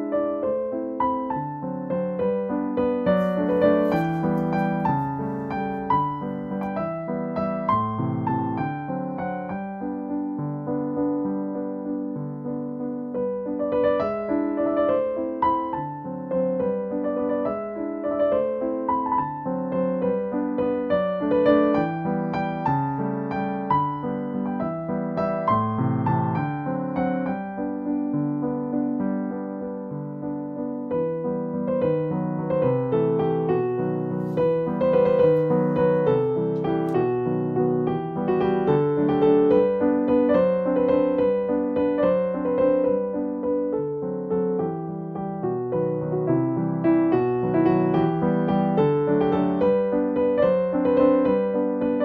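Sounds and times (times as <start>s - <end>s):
gentle piano music: 0.0s - 52.0s.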